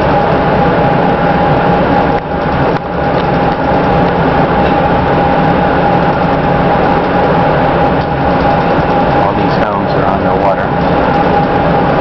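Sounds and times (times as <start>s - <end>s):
steady whine: 0.0s - 12.0s
train rumbling in motion: 0.0s - 12.0s.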